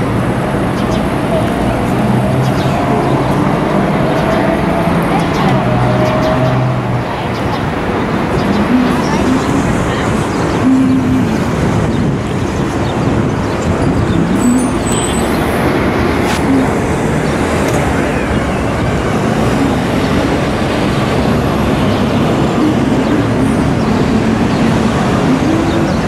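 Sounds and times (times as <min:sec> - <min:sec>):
cars and buses passing: 0:00.0 - 0:26.0.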